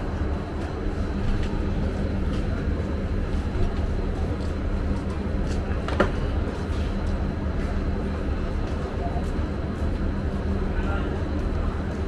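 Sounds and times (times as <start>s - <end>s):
constant hum: 0.0s - 12.0s
train rumble: 0.0s - 12.0s.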